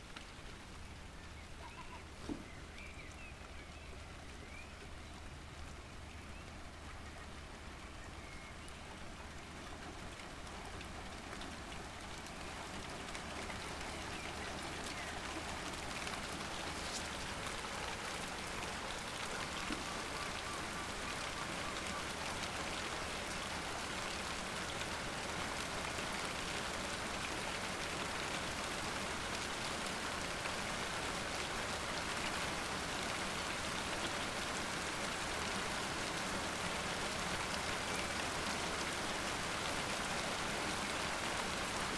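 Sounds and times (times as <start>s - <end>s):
rain pattering on surfaces: 0.0s - 41.9s.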